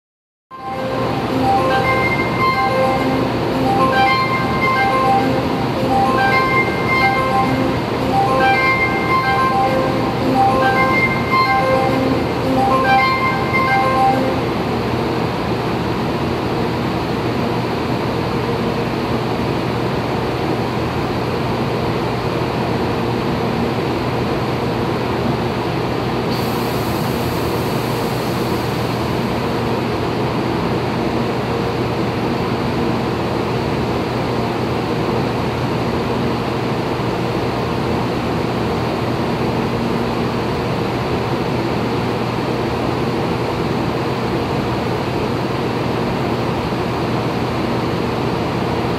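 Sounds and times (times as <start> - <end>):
train humming at platform: 0.5 - 48.9.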